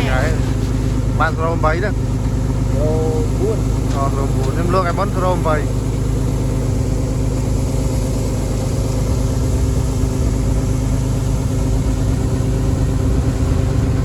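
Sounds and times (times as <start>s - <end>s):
harvesting machine engine running: 0.0s - 14.0s.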